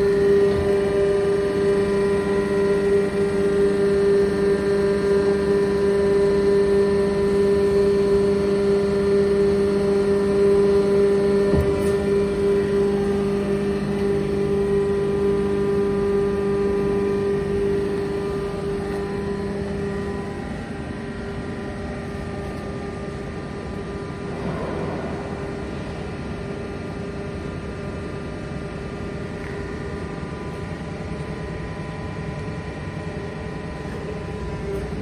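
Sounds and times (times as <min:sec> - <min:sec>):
hydraulic pump motor hum: 0:00.0 - 0:35.0.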